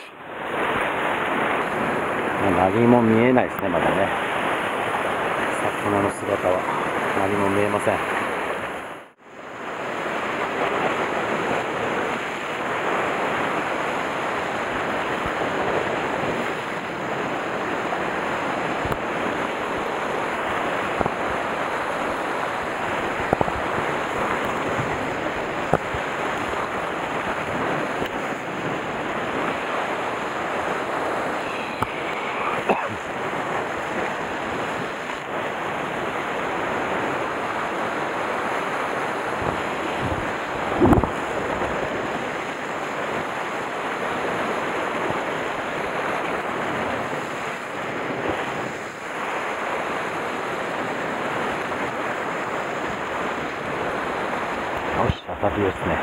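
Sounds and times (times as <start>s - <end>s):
wind buffeting microphone: 0.0s - 55.2s
surf breaking on rocks: 0.0s - 56.0s.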